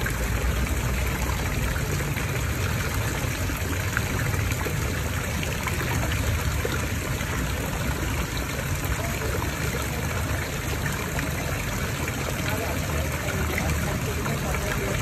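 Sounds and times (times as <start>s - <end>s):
waterfall splashing into pond: 0.0s - 15.0s.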